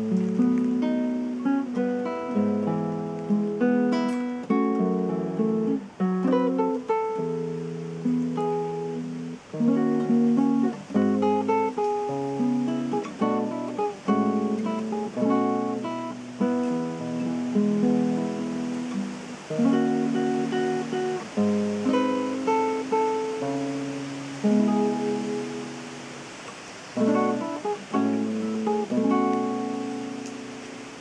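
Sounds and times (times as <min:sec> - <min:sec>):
fingerstyle nylon-string guitar: 0:00.0 - 0:31.0.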